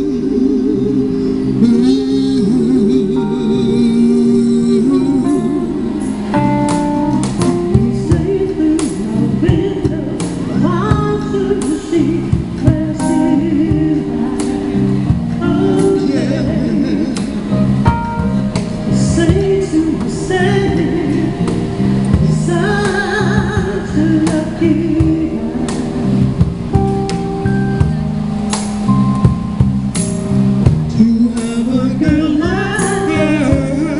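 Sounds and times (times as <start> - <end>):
person singing: 0.0 - 6.4, 7.2 - 17.6, 18.9 - 26.4, 30.9 - 33.9
live soul band playing: 0.0 - 33.9.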